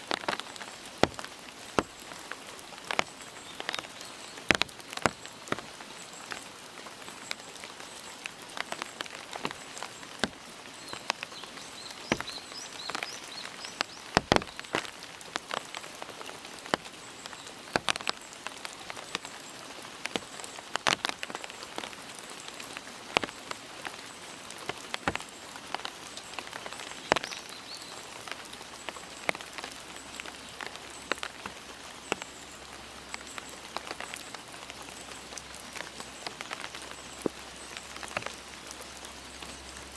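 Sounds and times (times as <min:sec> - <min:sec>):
rain falling: 0:00.0 - 0:39.9
raindrops striking close by: 0:00.0 - 0:39.9.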